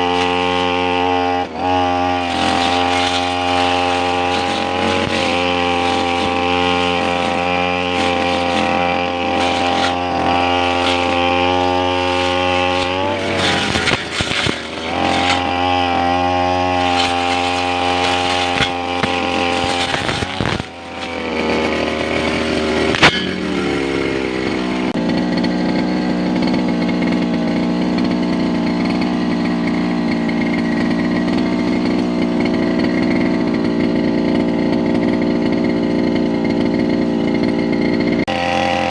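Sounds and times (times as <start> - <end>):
brush cutter engine: 0.0 - 38.9.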